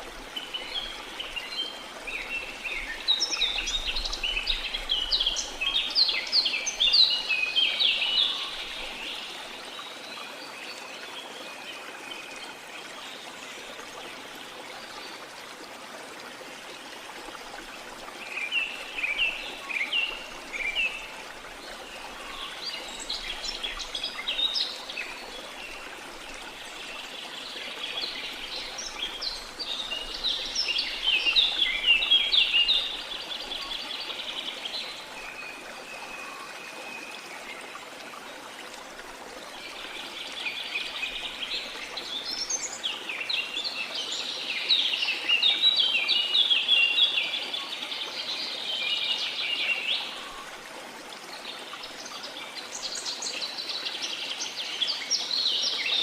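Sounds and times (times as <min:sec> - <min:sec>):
flowing stream: 0:00.0 - 0:56.0.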